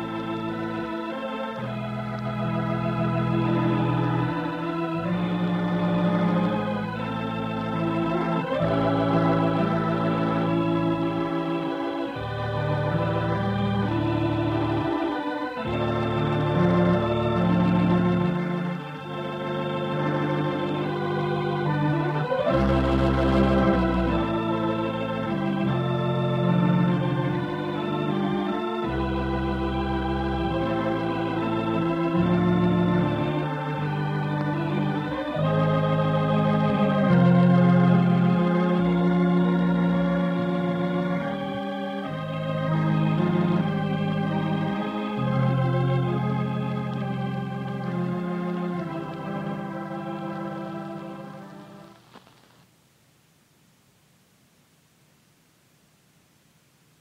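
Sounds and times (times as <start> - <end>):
organ playing sustained chords: 0.0 - 52.6.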